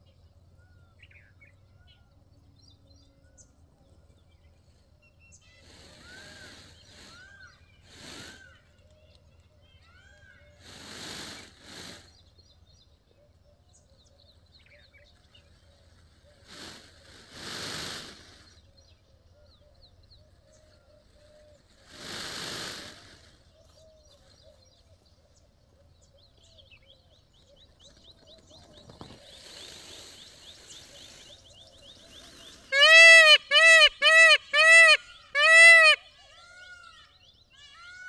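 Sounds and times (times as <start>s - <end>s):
faint bird calls: 0.0s - 38.0s.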